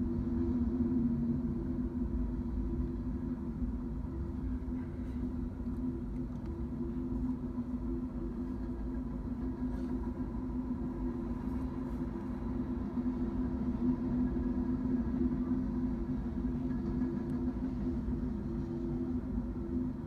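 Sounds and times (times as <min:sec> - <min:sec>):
freight train cars rolling: 0:00.0 - 0:20.0.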